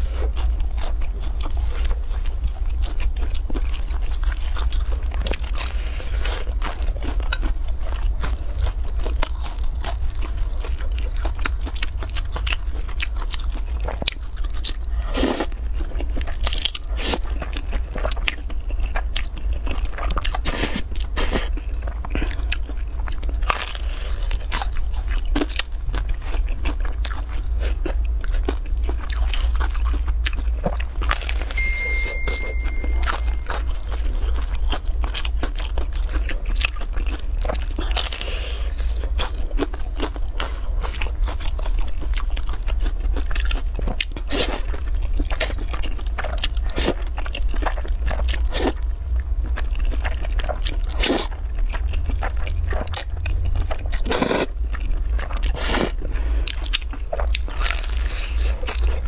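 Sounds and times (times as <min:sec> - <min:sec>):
chewing: 0:00.0 - 0:59.0
steady low hum: 0:00.0 - 0:59.0.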